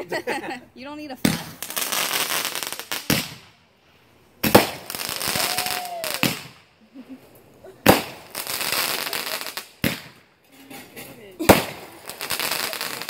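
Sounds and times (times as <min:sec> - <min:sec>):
fireworks hissing and crackling: 0:00.1 - 0:13.0
fireworks bangs: 0:01.0 - 0:03.8, 0:04.4 - 0:07.1, 0:07.7 - 0:13.0.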